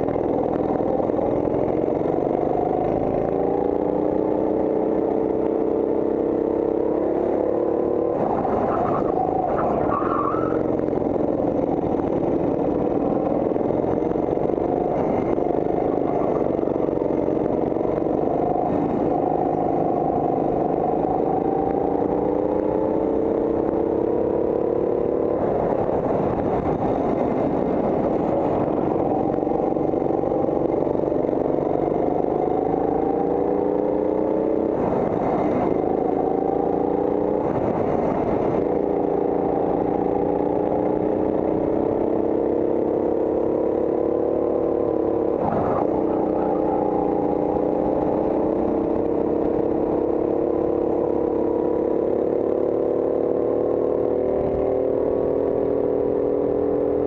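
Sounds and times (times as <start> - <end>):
go-kart engine racing: 0.0 - 57.0.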